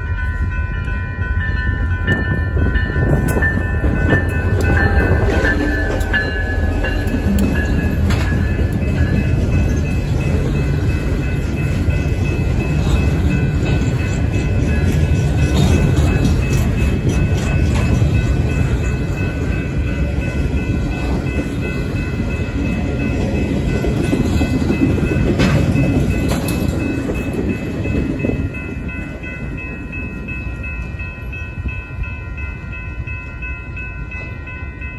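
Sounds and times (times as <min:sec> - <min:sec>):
high ringing tones: 0:00.0 - 0:34.9
train cars rumbling: 0:00.0 - 0:34.9
wheels clacking on rails: 0:00.0 - 0:34.9.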